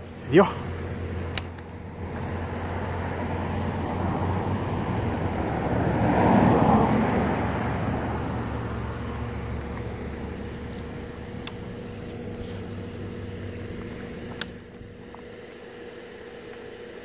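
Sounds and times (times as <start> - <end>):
vehicle passing by: 0.0 - 14.0
steady low hum: 0.0 - 17.0.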